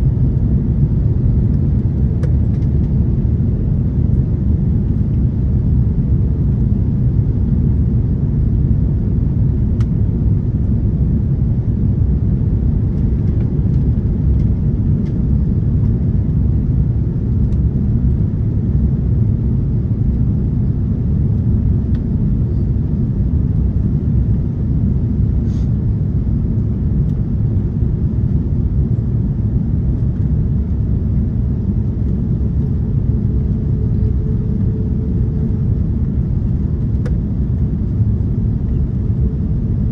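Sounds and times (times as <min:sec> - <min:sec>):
airplane cabin engine rumble: 0:00.0 - 0:39.9
faint hum: 0:00.0 - 0:39.9.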